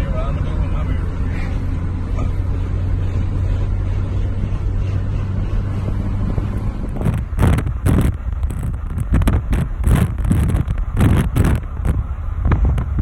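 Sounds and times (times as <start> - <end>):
car engine and road noise: 0.0 - 13.0
wind buffeting microphone: 1.6 - 13.0.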